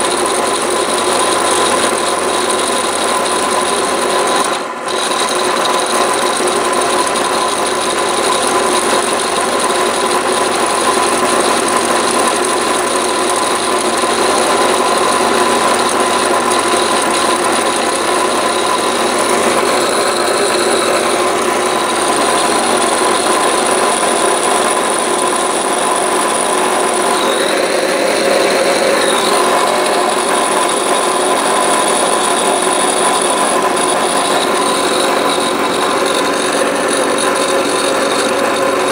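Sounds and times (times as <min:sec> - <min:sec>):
drill press milling metal whine: 0:00.0 - 0:38.9.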